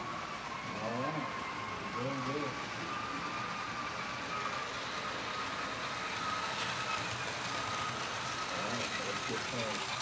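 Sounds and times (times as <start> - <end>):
high motor whine: 0.0 - 10.0
wheels rolling on track: 0.0 - 10.0.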